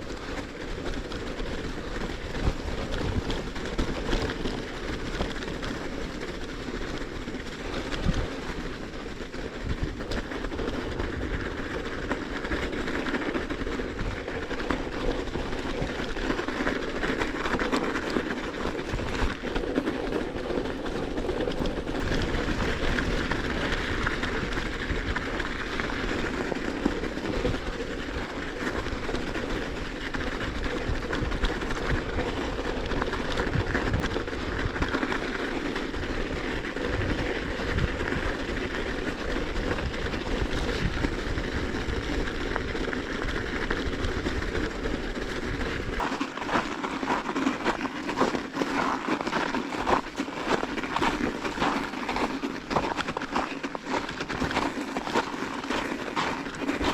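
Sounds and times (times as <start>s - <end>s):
bicycle tyres crunching on snow: 0.0s - 56.9s.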